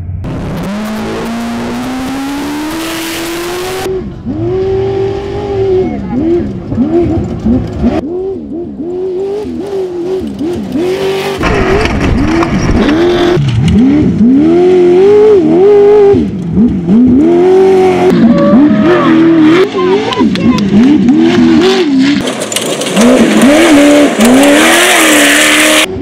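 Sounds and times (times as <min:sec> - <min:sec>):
buggy engine revving hard: 0:00.2 - 0:26.0.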